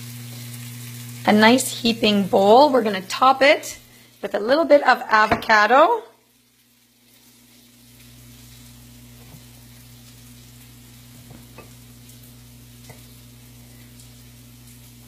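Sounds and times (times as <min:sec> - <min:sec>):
frying pan sizzling: 0:00.0 - 0:15.0.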